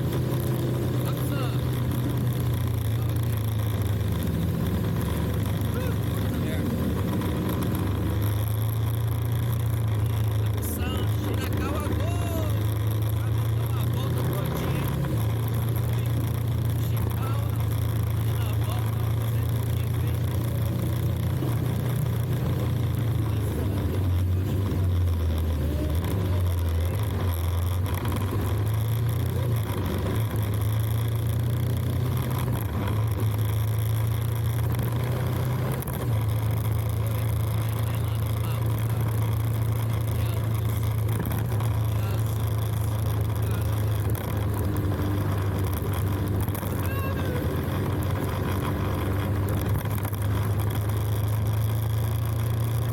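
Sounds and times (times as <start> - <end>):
motorcycle engine drone: 0.0 - 52.9.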